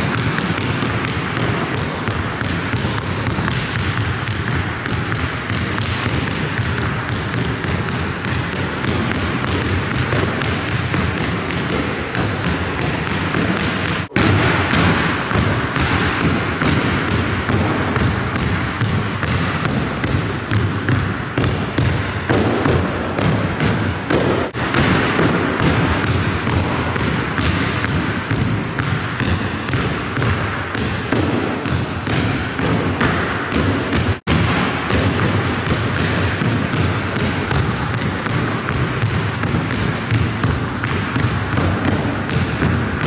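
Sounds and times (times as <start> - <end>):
basketballs bouncing: 0.0 - 43.0.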